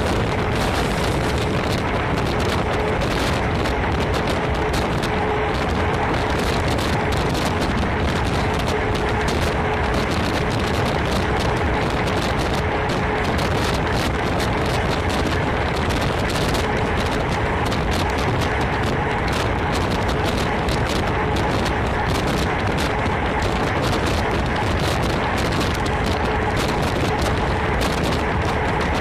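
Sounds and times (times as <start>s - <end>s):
moving train rail noise: 0.0s - 29.0s
wind buffeting microphone: 0.0s - 29.0s.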